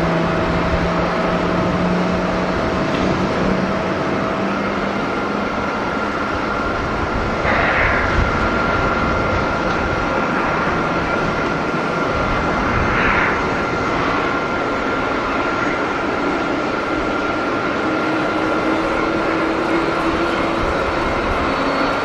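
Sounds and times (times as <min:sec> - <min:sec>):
high whine: 0:00.0 - 0:22.0
jet engines running: 0:00.0 - 0:22.0.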